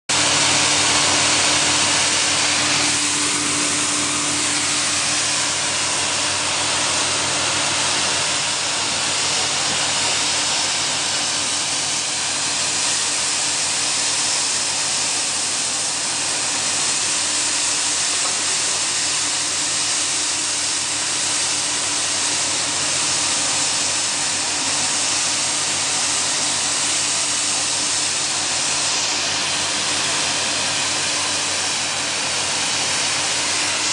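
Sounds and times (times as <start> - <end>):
continuous loud hiss: 0.2 - 33.9.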